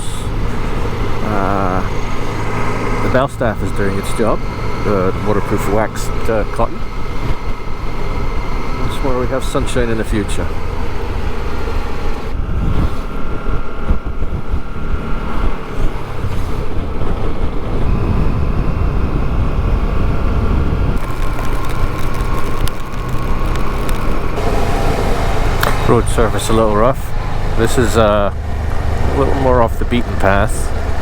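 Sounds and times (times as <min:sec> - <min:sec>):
motorcycle engine rumble: 0:00.0 - 0:31.0
road and wind hiss: 0:00.0 - 0:31.0
wind buffeting microphone: 0:00.0 - 0:31.0.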